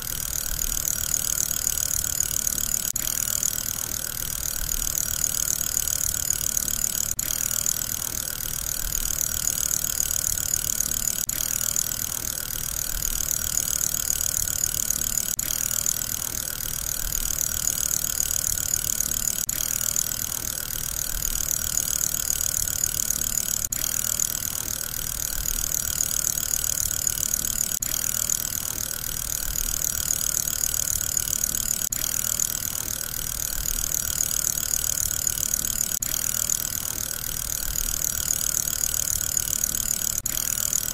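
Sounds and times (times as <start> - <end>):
fidget spinner whirring: 0.0 - 40.9.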